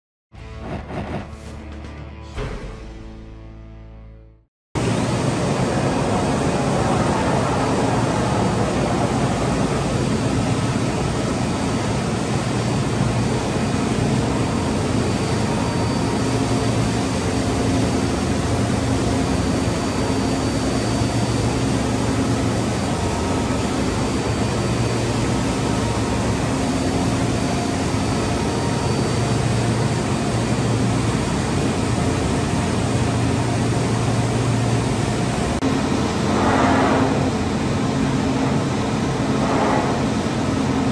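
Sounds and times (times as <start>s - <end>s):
cnc router humming with whine: 4.8s - 40.9s.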